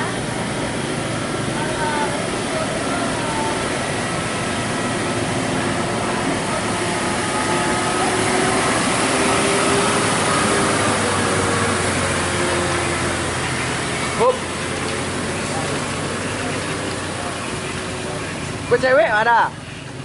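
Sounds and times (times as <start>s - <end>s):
truck engine running hard: 0.0s - 20.0s.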